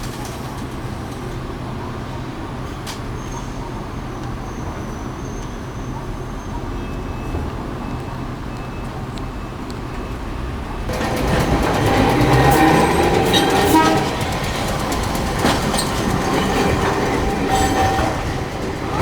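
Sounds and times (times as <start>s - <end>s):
streetcar passing on rails: 0.0s - 19.0s.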